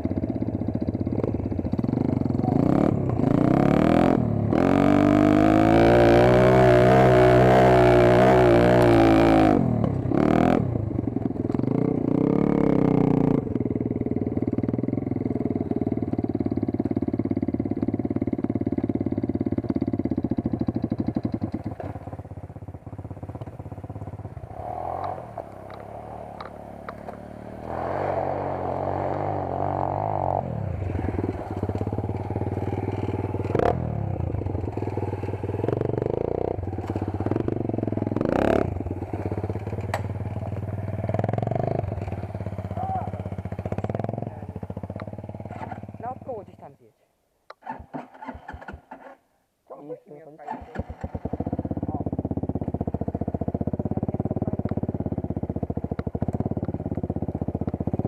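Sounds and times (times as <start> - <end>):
dirt bike engine revving: 0.0 - 46.5, 50.5 - 58.0.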